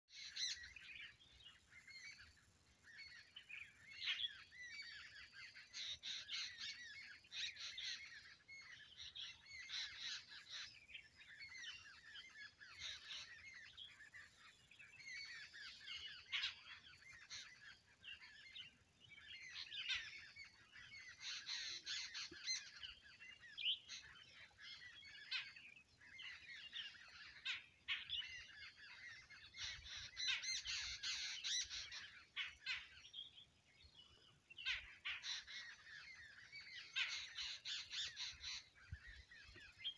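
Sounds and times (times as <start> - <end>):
birds chirping and calling: 0.1 - 39.9.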